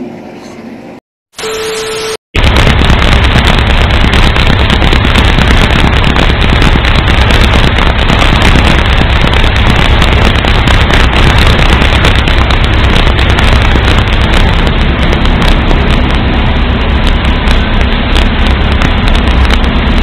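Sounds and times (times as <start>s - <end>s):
rough crackling vehicle noise: 2.4s - 20.0s.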